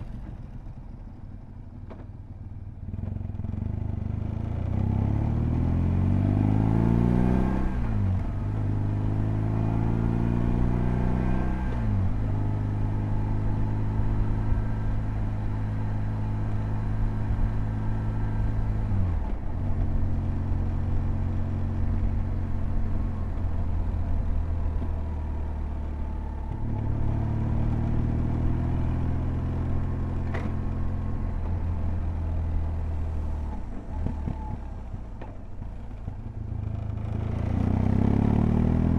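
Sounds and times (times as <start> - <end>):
motorcycle engine through gears: 0.0 - 38.9.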